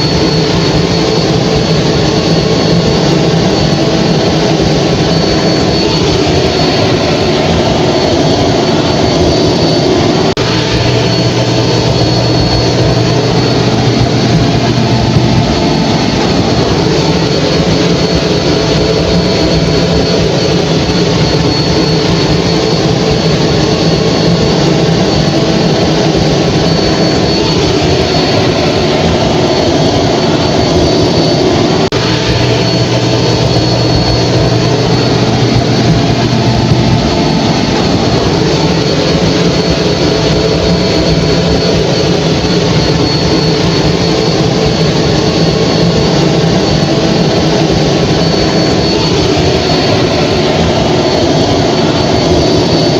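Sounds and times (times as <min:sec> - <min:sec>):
hair dryer blowing with high whine: 0:00.0 - 0:52.9
low hum: 0:00.0 - 0:52.9.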